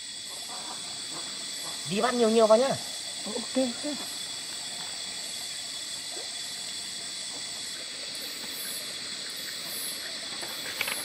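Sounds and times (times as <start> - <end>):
insect pulsing trill: 0.0 - 11.0
insects buzzing: 0.0 - 11.0.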